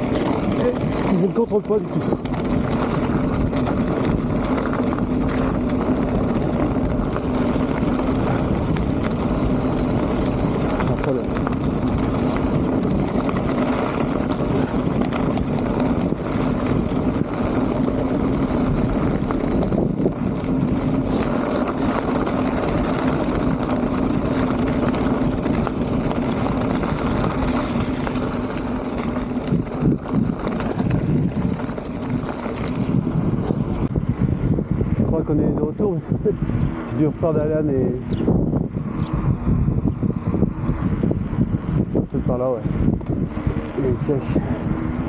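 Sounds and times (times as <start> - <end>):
bike tyres humming: 0.0 - 45.0
wind over microphone: 0.0 - 45.0.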